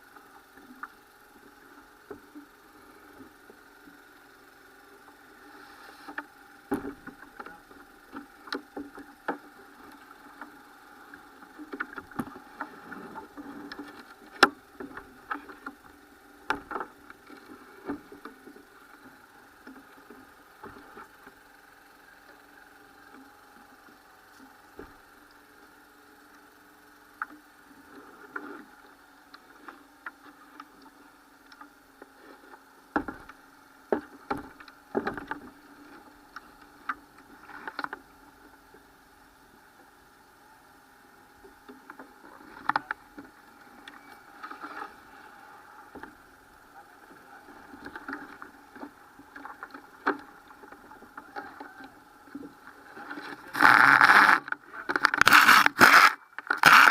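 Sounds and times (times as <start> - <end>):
steady droning hum: 0.0 - 56.9.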